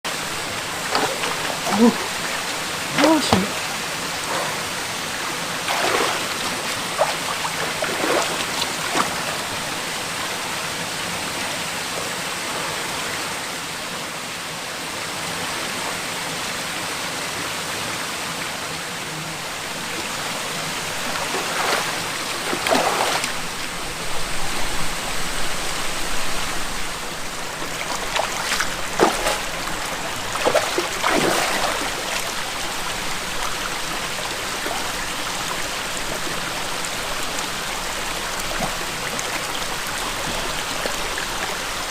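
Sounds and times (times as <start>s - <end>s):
stream rushing over rocks: 0.1s - 41.9s.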